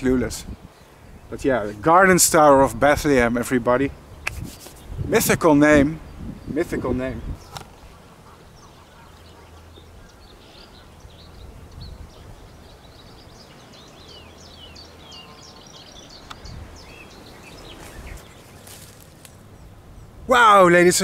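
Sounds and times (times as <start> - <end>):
birds chirping and calling: 3.7 - 21.0.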